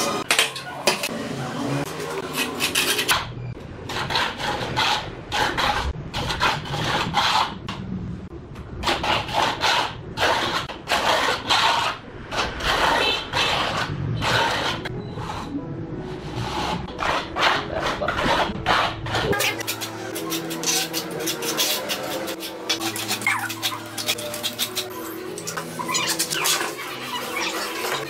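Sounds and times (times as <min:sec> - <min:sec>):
trowel scraping mortar: 0:02.0 - 0:03.3, 0:03.9 - 0:07.6, 0:08.8 - 0:15.5, 0:16.2 - 0:28.0.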